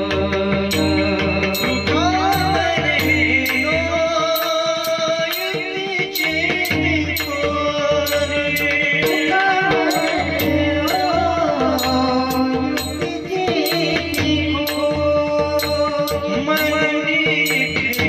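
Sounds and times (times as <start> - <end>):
hand drum: 0.0 - 18.0
high metallic strikes: 0.0 - 18.0
person singing: 0.0 - 18.0.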